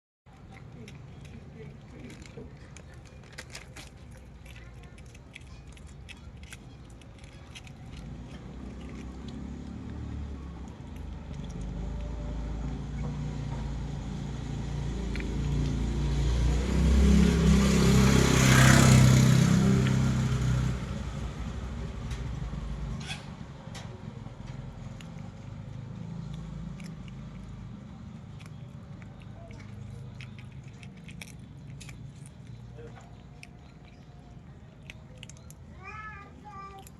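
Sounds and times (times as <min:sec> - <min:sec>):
vehicle engine hum: 0:00.3 - 0:36.9.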